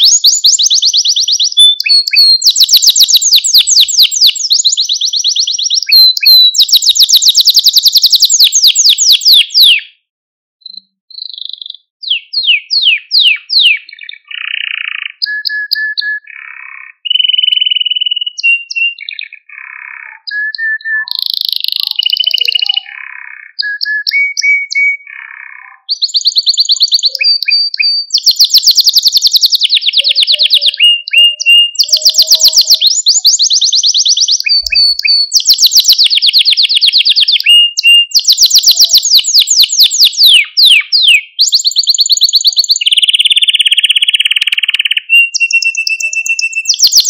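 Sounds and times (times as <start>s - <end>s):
canary singing: 0.0s - 10.0s, 10.6s - 47.0s.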